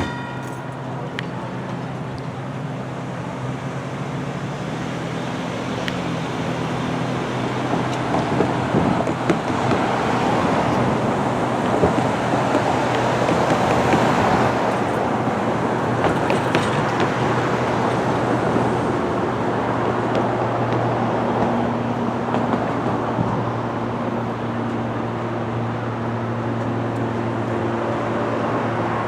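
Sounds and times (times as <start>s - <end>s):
diesel locomotive engine humming: 0.0s - 29.0s.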